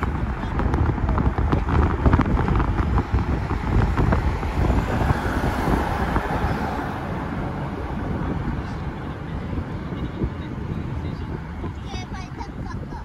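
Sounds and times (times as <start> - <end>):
car road noise: 0.0 - 13.0
wind buffeting microphone: 0.0 - 13.0.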